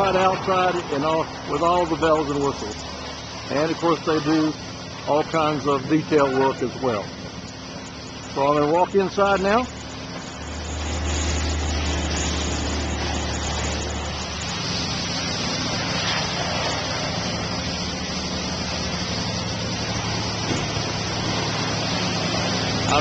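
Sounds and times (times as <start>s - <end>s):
pump low drone: 0.0s - 23.0s
water spraying: 0.0s - 23.0s.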